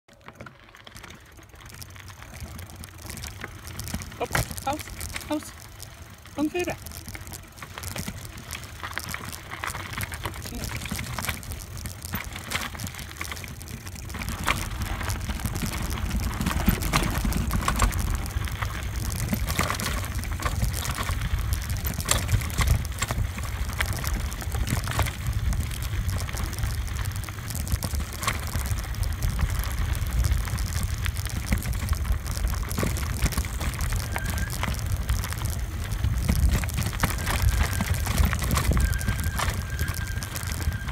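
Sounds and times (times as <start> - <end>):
bike tyres crunching on gravel: 0.1 - 40.9
steady low rumble: 2.1 - 40.9.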